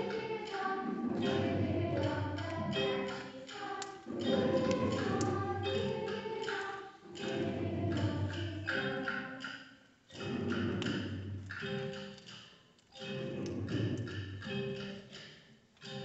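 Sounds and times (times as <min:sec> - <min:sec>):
small ensemble playing music: 0:00.0 - 0:16.0.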